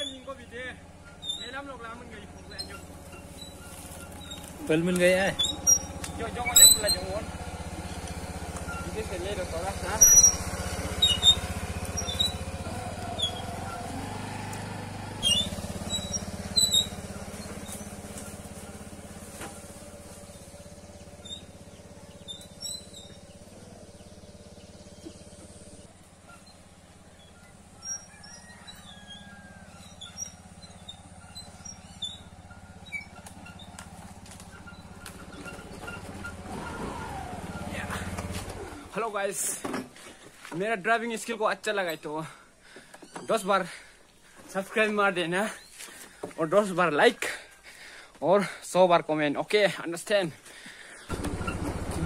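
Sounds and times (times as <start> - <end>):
scooter engine running: 0.0 - 40.5, 50.8 - 52.0
birds chirping: 0.0 - 52.0.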